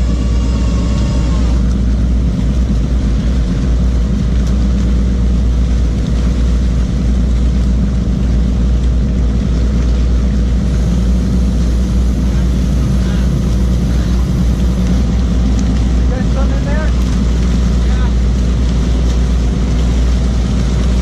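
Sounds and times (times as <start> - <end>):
boat engine drone: 0.0 - 21.0
high whine: 0.0 - 21.0.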